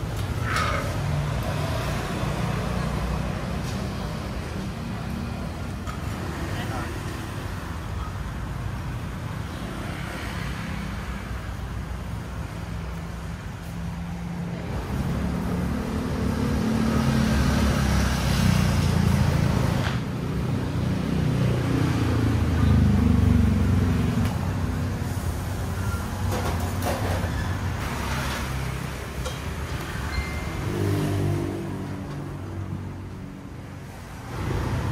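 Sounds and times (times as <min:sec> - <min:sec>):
road traffic passing: 0:00.0 - 0:34.9.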